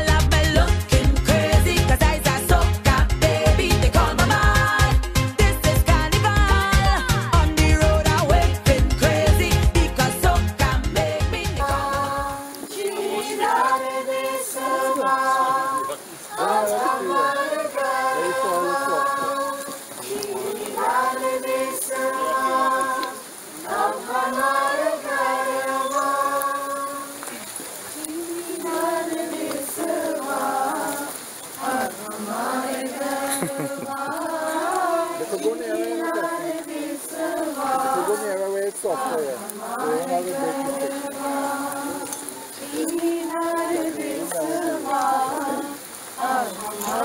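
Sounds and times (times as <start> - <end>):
voices singing without instruments: 0.0 - 47.0.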